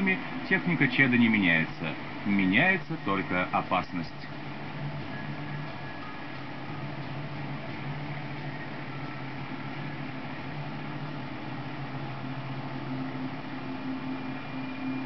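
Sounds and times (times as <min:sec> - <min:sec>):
higher hum: 0:00.0 - 0:15.0
low droning hum: 0:00.0 - 0:15.0.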